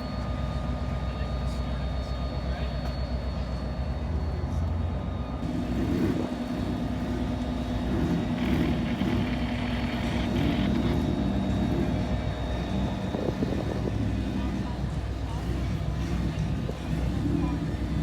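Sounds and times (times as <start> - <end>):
car engine droning: 2.5 - 18.0.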